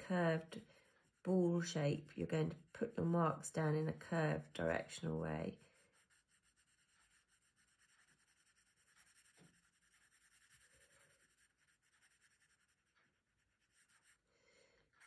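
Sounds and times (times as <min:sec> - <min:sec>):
pencil scratching on paper: 0:00.0 - 0:14.3.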